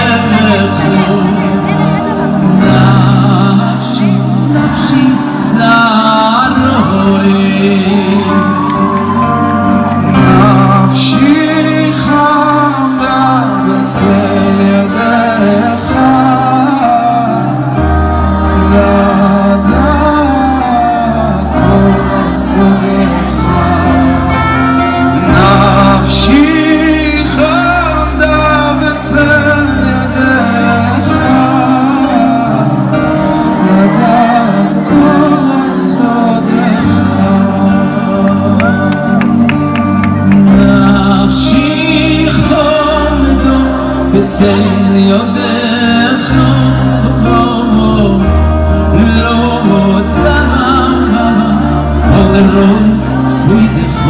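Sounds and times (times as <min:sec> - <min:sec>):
men singing: 0:00.0 - 0:09.0, 0:10.0 - 0:39.5, 0:40.2 - 0:54.0.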